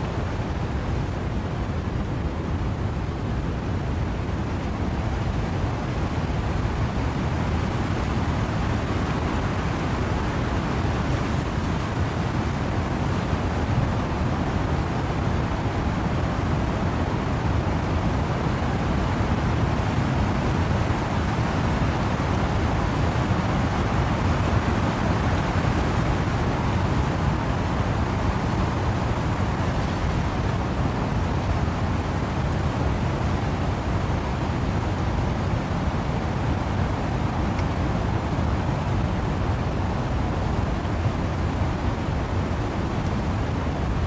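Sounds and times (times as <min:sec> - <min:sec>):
wind through trees: 0:00.0 - 0:44.0
wind-driven rain: 0:00.0 - 0:44.0.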